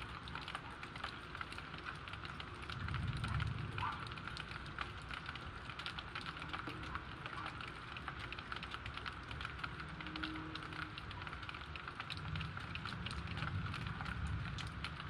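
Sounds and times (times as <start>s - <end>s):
raindrops ticking close by: 0.0s - 15.0s
steady rain falling: 0.0s - 15.0s.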